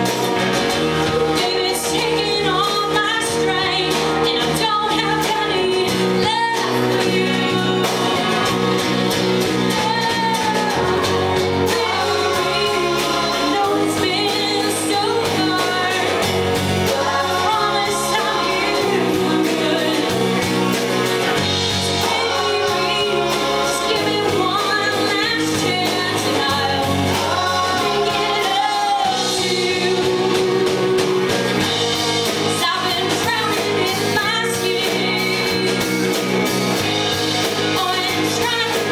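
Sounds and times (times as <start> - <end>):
lead vocalist singing: 0.0 - 36.2
bass line: 0.0 - 38.9
live band playing: 0.0 - 38.9.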